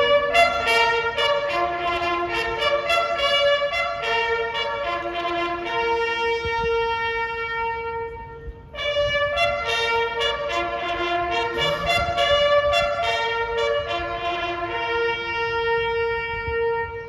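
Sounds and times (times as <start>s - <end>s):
brass instruments playing slow tune: 0.0s - 17.0s.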